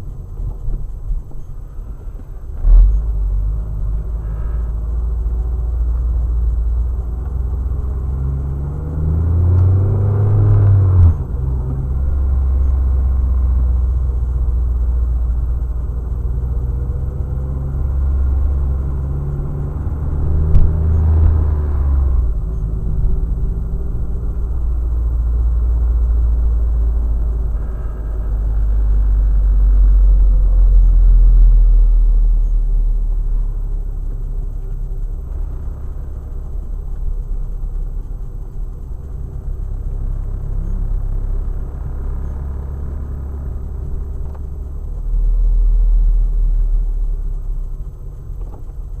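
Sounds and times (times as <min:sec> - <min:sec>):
engine drone and road rumble: 0:00.0 - 0:49.0.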